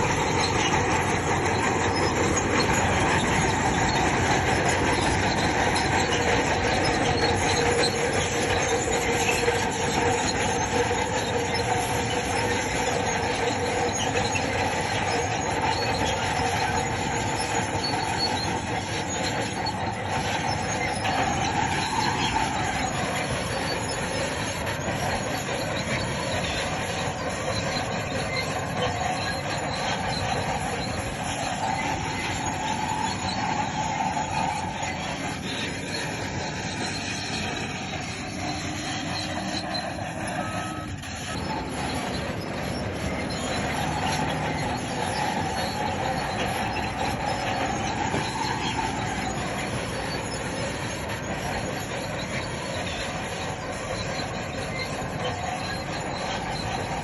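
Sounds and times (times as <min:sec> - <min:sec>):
bulldozer engine running: 0:00.0 - 0:57.0
steel tracks squealing: 0:00.0 - 0:57.0.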